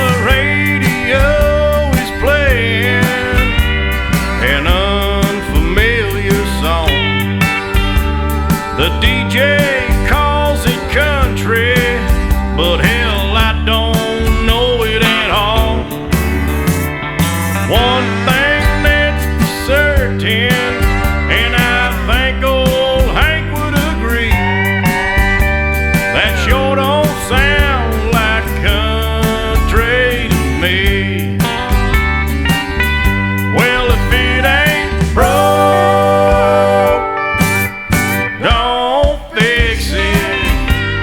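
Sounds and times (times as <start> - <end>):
country music with steel guitar: 0.0 - 41.0.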